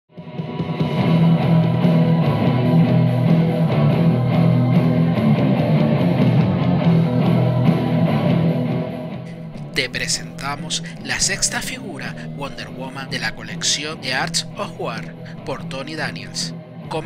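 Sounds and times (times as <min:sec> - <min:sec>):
loud rock music: 0:00.1 - 0:17.0.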